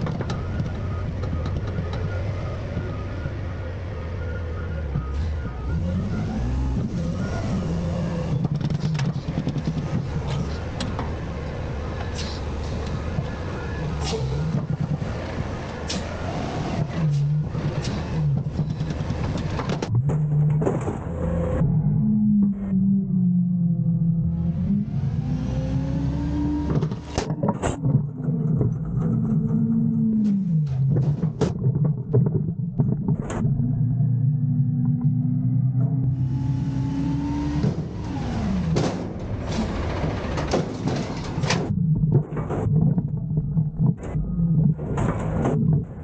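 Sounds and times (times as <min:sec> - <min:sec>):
garbage truck engine revving: 0:00.0 - 0:31.5, 0:33.1 - 0:42.8.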